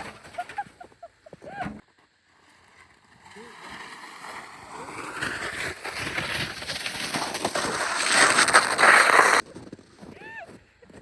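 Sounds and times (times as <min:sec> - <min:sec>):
sled scraping down icy snow: 0:00.0 - 0:11.0.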